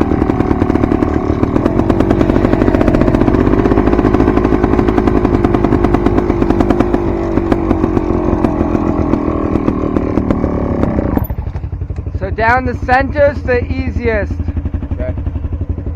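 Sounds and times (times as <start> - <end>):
dirt bike engine running: 0.0 - 15.9.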